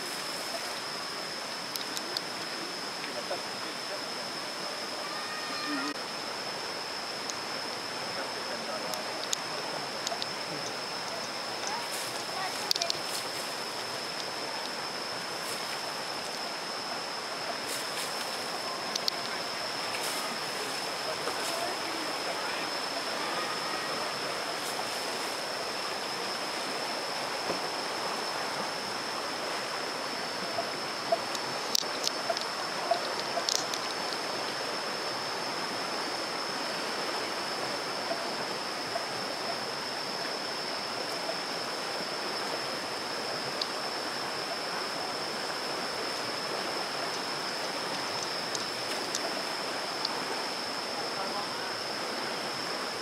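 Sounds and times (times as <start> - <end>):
high-pitched whine: 0.0 - 53.0
river rushing over stones: 0.0 - 53.0.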